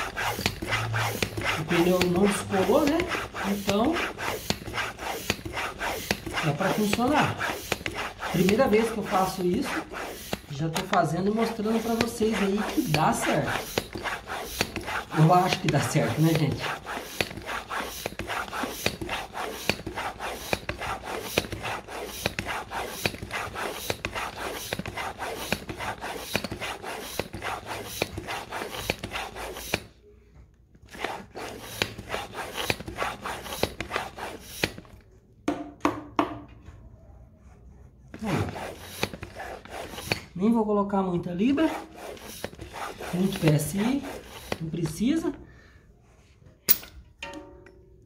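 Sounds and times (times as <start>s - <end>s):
bicycle pump strokes: 0.0s - 30.0s, 30.9s - 35.0s, 38.1s - 40.4s, 41.6s - 45.0s.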